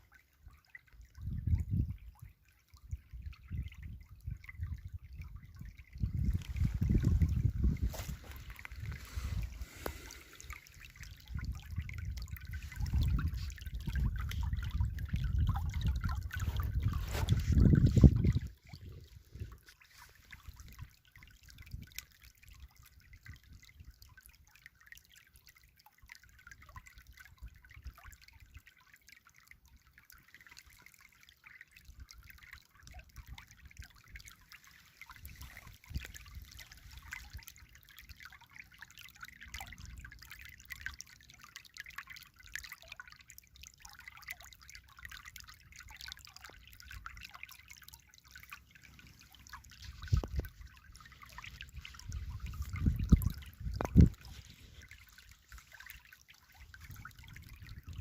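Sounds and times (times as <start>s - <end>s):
river water trickling: 0.0s - 58.0s
small splashes pattering: 1.9s - 58.0s.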